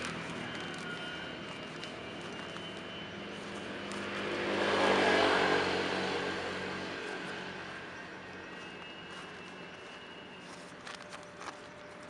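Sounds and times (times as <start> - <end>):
vehicle passing by: 0.0 - 11.8.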